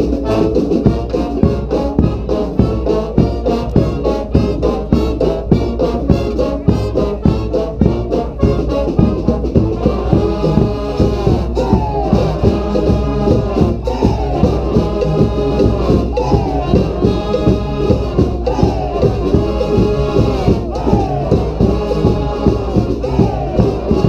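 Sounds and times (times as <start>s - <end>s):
brass band playing: 0.0s - 24.0s
drums keeping a steady beat: 0.0s - 24.0s.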